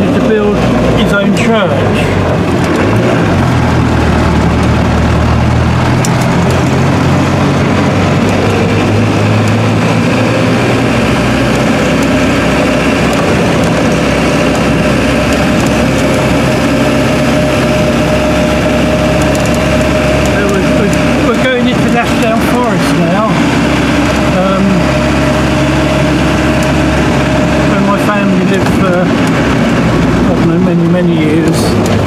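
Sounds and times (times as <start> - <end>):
steady whining tone: 0.0 - 32.0
vehicle engine drone from inside: 0.0 - 32.0.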